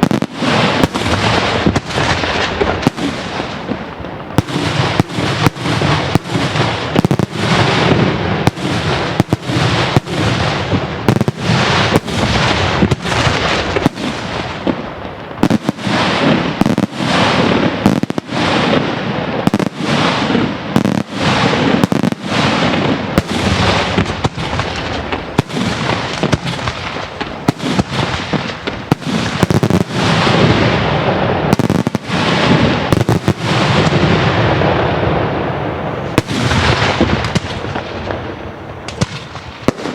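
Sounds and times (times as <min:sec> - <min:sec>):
fireworks bangs with echo: 0:00.0 - 0:39.9.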